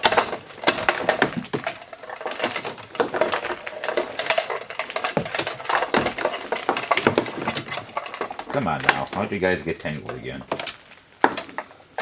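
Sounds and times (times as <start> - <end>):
foot pedals clicking and rattling: 0.0 - 12.0.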